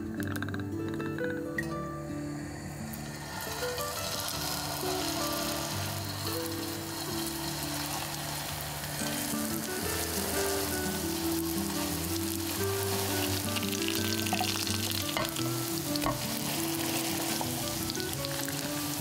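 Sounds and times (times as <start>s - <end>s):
food sizzling in hot fat: 2.2s - 19.0s.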